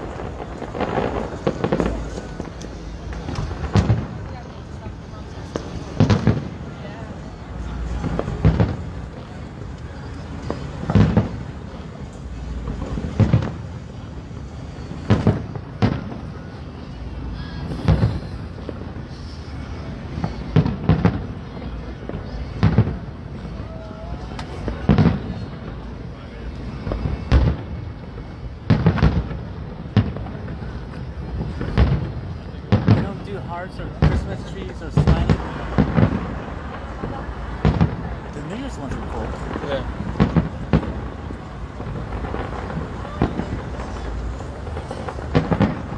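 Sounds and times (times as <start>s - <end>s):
fireworks booming: 0.0s - 16.9s, 17.6s - 45.9s.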